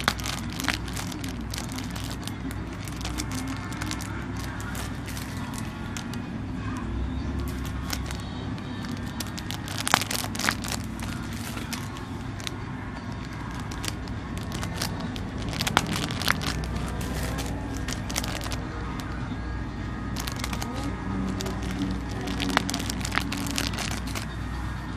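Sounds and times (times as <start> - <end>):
packaging crinkling: 0.0 - 6.3, 7.4 - 18.6, 20.2 - 24.3.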